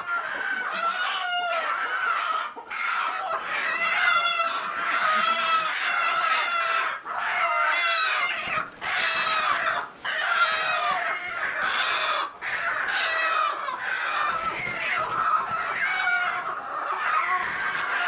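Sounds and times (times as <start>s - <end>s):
chickens calling: 0.0s - 18.0s.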